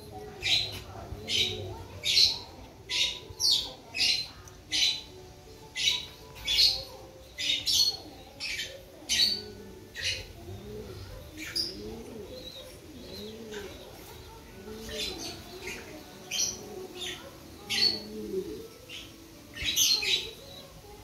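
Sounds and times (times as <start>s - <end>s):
pigeon cooing: 0.0s - 21.0s.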